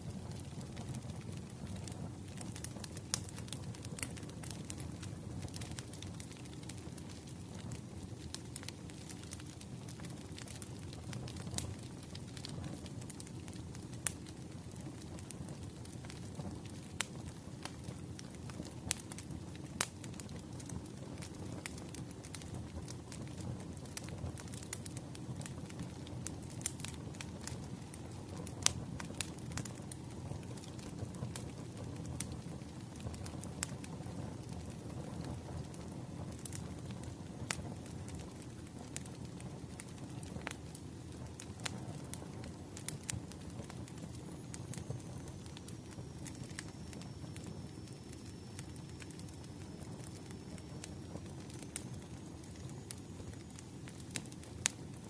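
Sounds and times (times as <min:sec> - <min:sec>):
wood fire crackling: 0:00.0 - 0:55.0
sharp pops from fire: 0:00.1 - 0:55.0.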